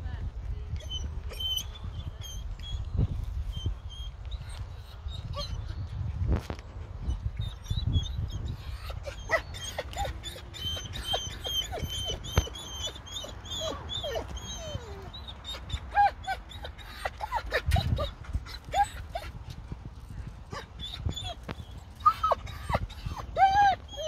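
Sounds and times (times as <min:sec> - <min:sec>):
puppies whimpering and yipping: 0:00.7 - 0:19.5, 0:20.4 - 0:24.0.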